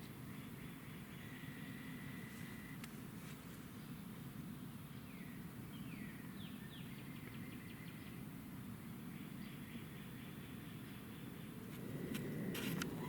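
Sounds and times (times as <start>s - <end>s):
low outdoor background noise: 0.0s - 13.0s.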